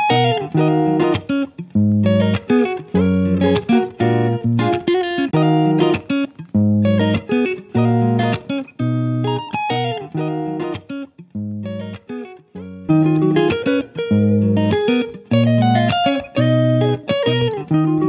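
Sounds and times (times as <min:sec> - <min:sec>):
guitar plucked notes: 0:00.0 - 0:18.0.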